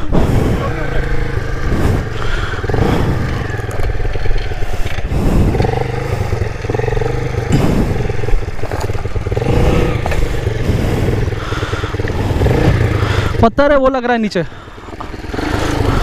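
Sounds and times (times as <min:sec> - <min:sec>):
dirt bike engine blipping: 0:00.0 - 0:16.0.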